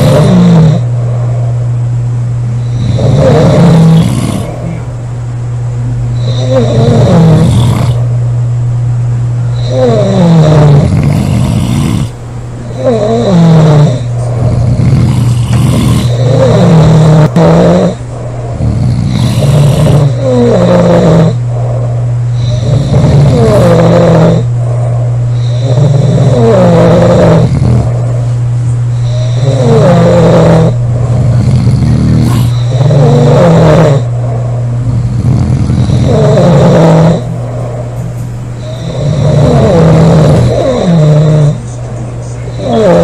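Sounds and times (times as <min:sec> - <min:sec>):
women snoring: 0:00.0 - 0:00.9, 0:02.6 - 0:04.8, 0:06.2 - 0:08.1, 0:09.5 - 0:28.0, 0:28.9 - 0:34.1, 0:34.9 - 0:37.4, 0:38.6 - 0:41.6, 0:42.5 - 0:43.0
low hum: 0:00.0 - 0:13.2, 0:13.9 - 0:43.0.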